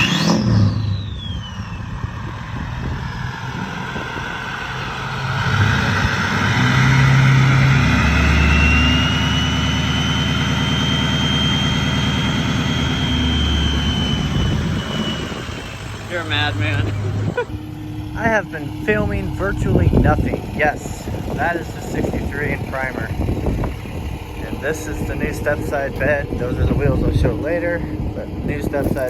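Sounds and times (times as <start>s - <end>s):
whine changing pitch: 0.0s - 28.4s
engine humming: 0.0s - 29.0s.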